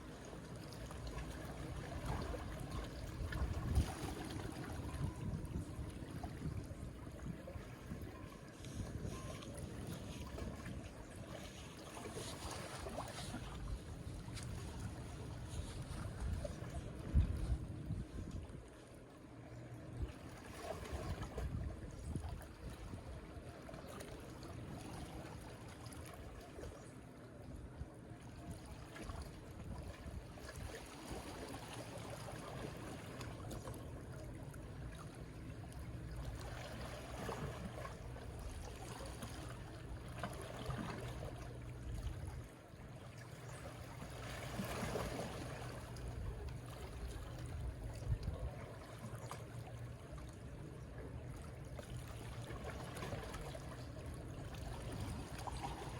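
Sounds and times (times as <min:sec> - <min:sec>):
low steady rumble: 0:00.0 - 0:55.9.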